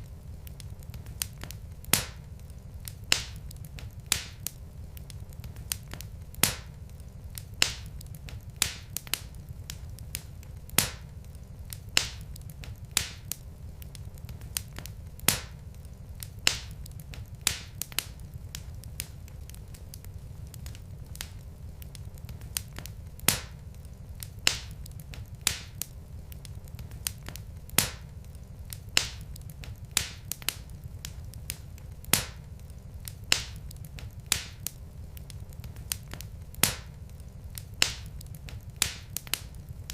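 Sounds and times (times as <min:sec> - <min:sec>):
steady low rumble: 0:00.0 - 0:39.9
wood logs crackling in fireplace: 0:00.0 - 0:39.9.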